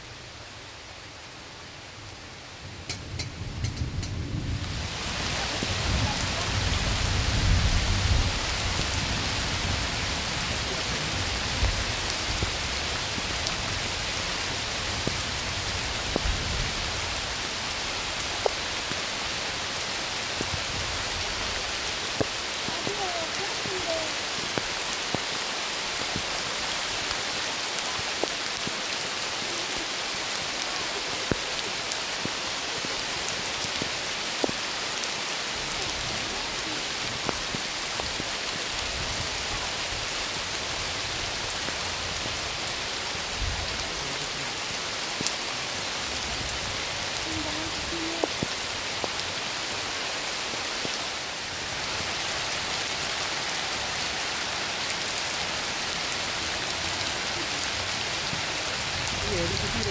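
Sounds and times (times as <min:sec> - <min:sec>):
heavy rain pouring: 0:00.0 - 0:59.9
raindrops ticking close by: 0:00.2 - 0:59.9.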